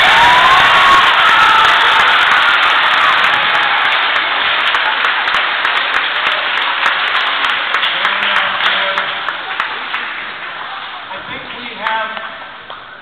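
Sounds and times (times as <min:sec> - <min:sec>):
audience clapping: 0:00.0 - 0:12.9.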